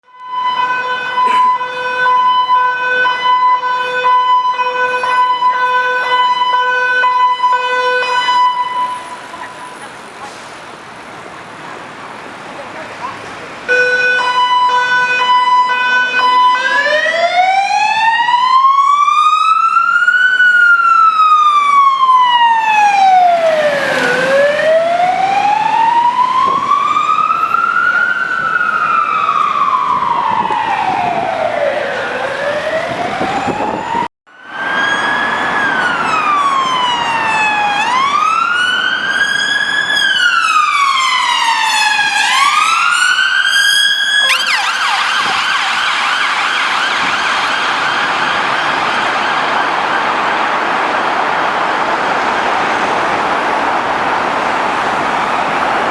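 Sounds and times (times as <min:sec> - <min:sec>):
ambulance siren wailing: 0:00.0 - 0:10.0, 0:13.1 - 0:55.9
fire engine two-tone siren: 0:00.0 - 0:10.3, 0:13.7 - 0:55.9.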